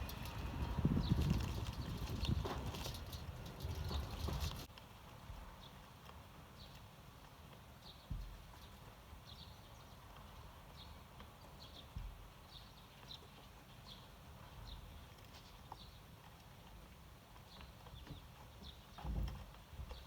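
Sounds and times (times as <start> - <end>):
sparrows chirping faintly: 0.0 - 4.7, 5.5 - 20.0.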